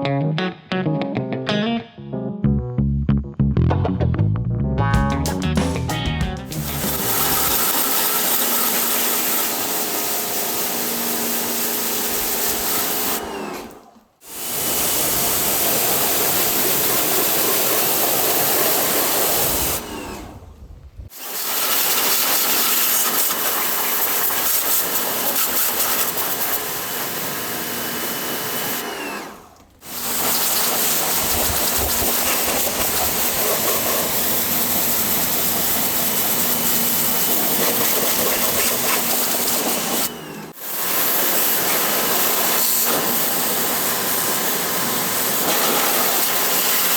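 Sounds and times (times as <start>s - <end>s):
pressure washer spraying: 6.5s - 20.2s, 21.1s - 28.9s, 29.8s - 46.9s.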